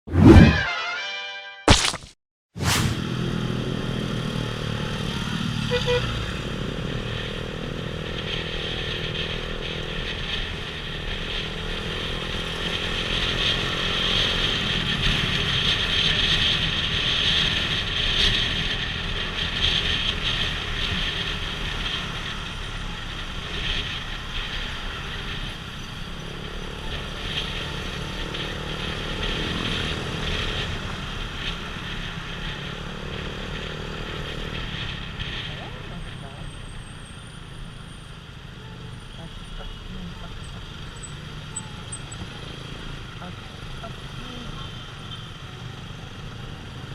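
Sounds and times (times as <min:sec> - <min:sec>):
road and wind noise: 0:02.6 - 0:46.9.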